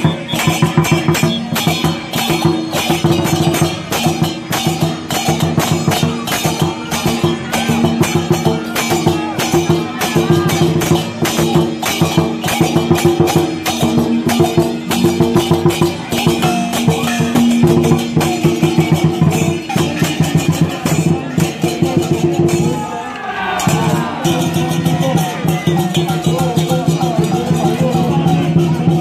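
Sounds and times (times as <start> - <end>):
drum: 0.0 - 22.9, 23.5 - 29.0
cymbals crashing: 0.0 - 29.0.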